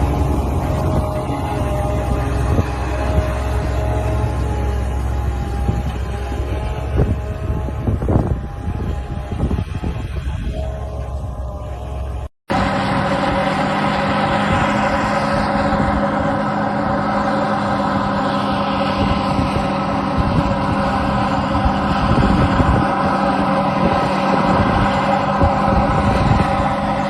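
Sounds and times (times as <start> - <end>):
heavy machine engine droning: 0.0 - 27.0.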